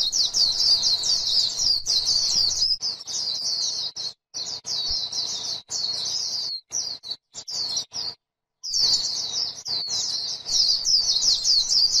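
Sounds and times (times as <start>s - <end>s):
bird twittering warble: 0.0s - 12.0s.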